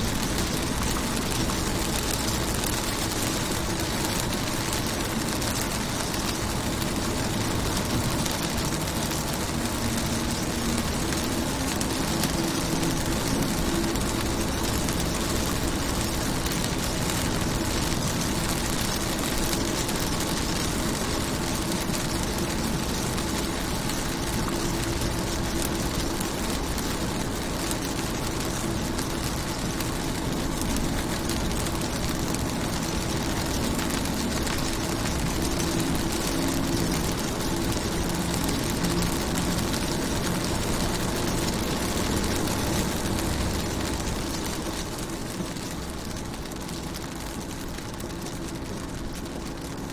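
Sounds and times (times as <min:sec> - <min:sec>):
rain on car windows: 0:00.0 - 0:49.9.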